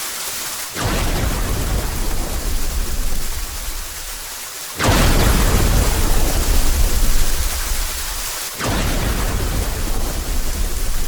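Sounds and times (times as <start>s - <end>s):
heavy rain: 0.0s - 11.0s
thunder rumbling: 0.8s - 4.2s, 4.8s - 11.0s
thunderclap: 0.8s - 4.2s, 4.8s - 11.0s.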